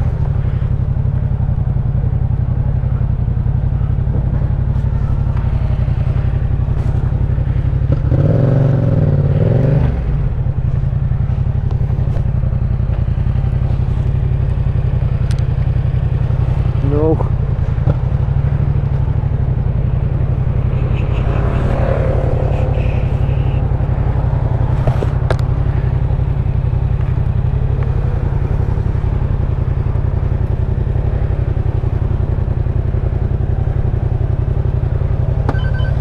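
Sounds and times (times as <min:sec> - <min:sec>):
motorcycle engine idling: 0:00.0 - 0:09.4, 0:10.0 - 0:36.0.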